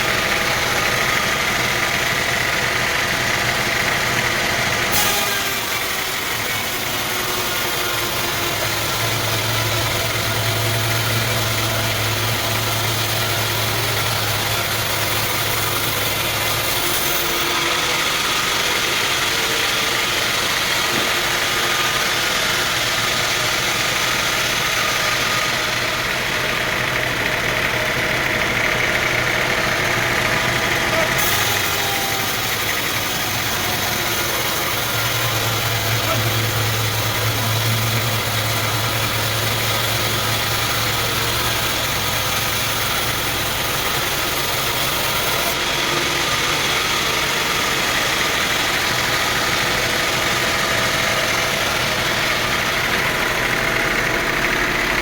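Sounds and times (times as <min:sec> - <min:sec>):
sawmill machinery droning: 0:00.0 - 0:55.0.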